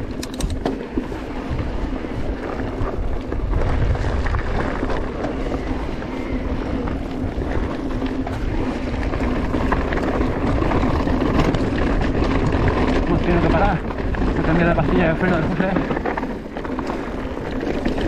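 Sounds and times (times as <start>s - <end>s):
bike clicks and rattles: 0.0s - 18.0s
tyre noise: 0.0s - 18.0s
wind rumbling on microphone: 0.0s - 18.0s.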